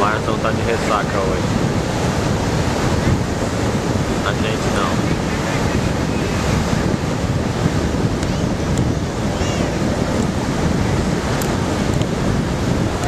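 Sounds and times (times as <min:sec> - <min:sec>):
ocean waves breaking on beach: 0:00.0 - 0:13.0
wind buffeting microphone: 0:00.0 - 0:13.0.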